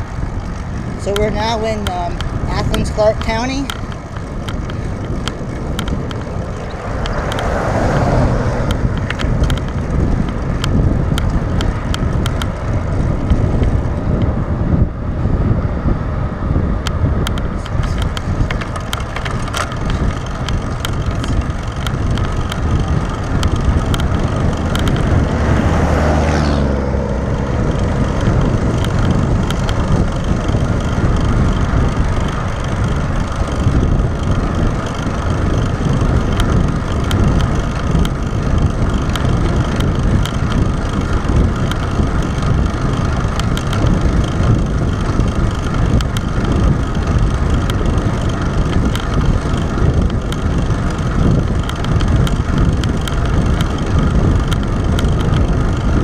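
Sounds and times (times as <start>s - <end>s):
small ticks: 0.0s - 12.6s, 16.8s - 26.8s, 27.5s - 56.0s
bicycle tyre noise: 0.0s - 56.0s
wind rushing over microphone: 0.0s - 56.0s.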